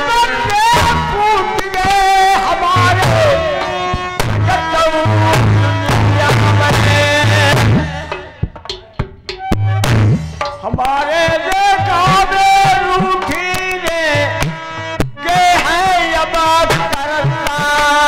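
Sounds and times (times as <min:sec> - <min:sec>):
hand drum: 0:00.5 - 0:15.6.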